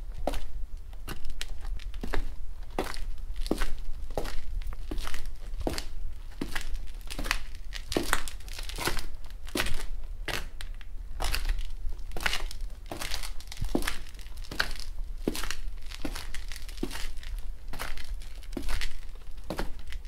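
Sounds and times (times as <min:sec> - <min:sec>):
heeled footsteps on concrete: 0:00.2 - 0:10.5, 0:11.2 - 0:20.0.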